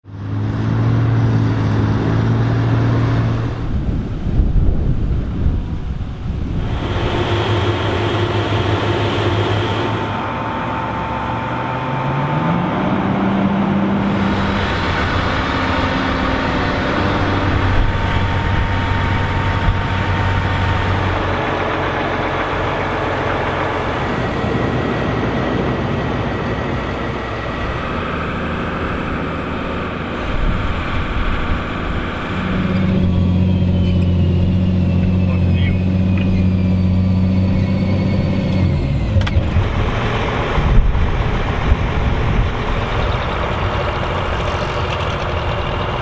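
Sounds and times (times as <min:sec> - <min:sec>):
tractor engines under load: 0:00.0 - 0:46.0
dense rushing noise: 0:00.3 - 0:36.2, 0:38.9 - 0:46.0.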